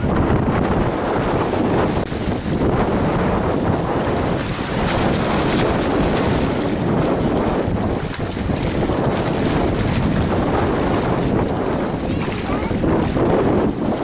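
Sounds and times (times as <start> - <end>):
sea waves: 0.0 - 14.0
wind rumbling on microphone: 0.0 - 14.0.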